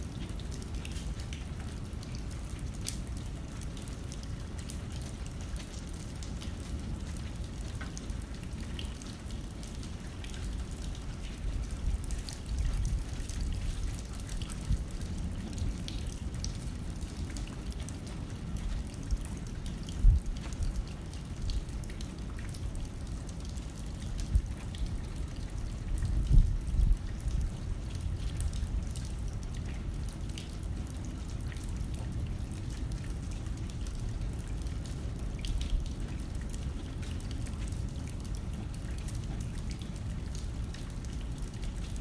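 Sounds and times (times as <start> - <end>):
rain pattering on window: 0.0 - 42.0.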